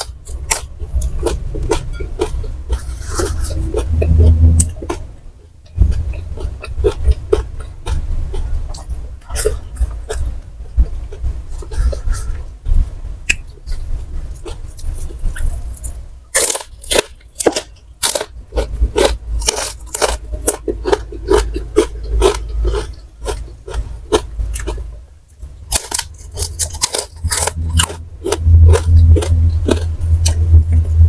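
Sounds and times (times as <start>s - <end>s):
crunching and chewing crisp snacks: 0.0s - 31.0s.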